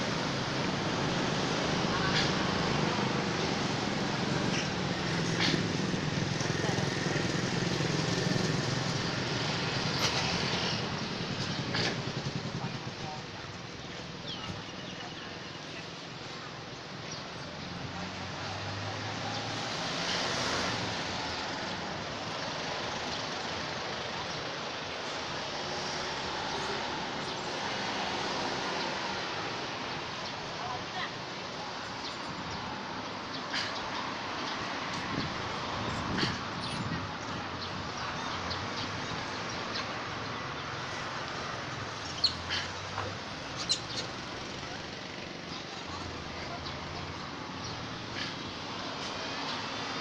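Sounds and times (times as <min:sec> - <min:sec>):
street traffic noise: 0:00.0 - 0:50.0.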